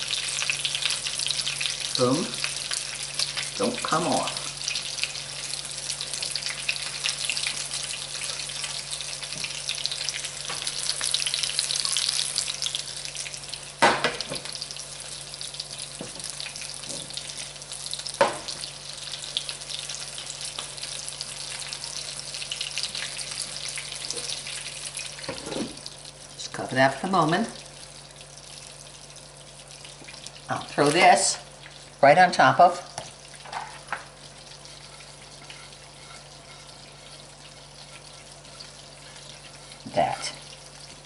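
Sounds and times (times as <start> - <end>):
chicken frying in oil: 0.0 - 41.0.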